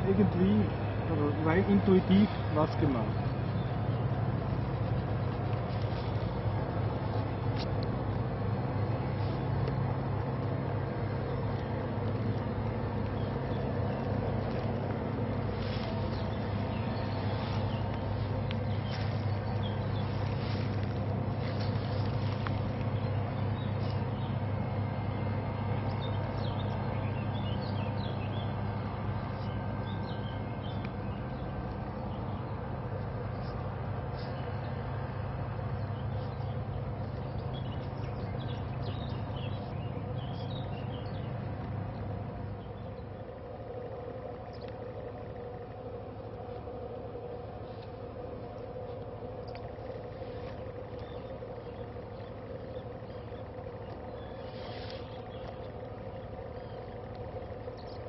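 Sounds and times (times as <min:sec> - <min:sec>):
low engine-like hum: 0:00.0 - 0:58.0
bird chirps: 0:11.1 - 0:58.0.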